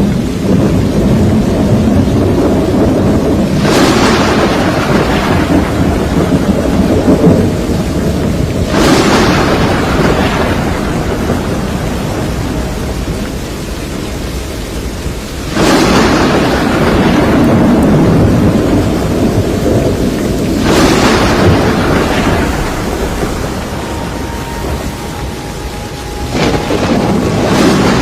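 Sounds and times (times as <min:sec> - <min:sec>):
heavy rain: 0:00.0 - 0:28.0
thunder claps rumbling: 0:00.0 - 0:28.0.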